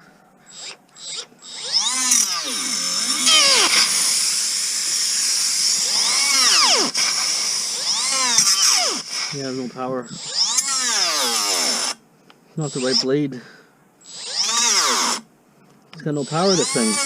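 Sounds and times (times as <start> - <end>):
cordless cutter motor whining: 0.5 - 12.0, 12.6 - 13.1, 14.0 - 15.2, 16.2 - 17.0.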